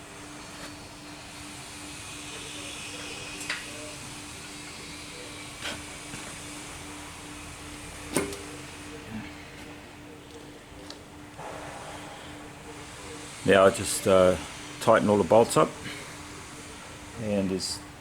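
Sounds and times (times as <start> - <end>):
steady hum and hiss: 0.0 - 18.0.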